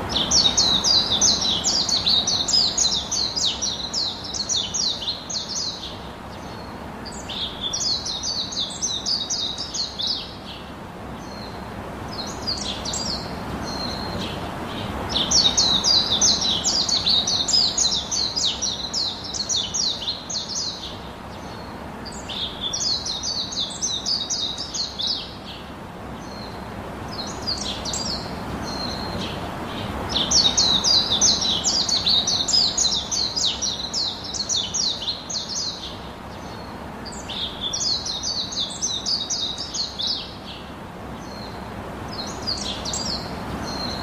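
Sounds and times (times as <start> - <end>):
small birds chirping: 0.0 - 44.0
steady background hiss: 0.0 - 44.0.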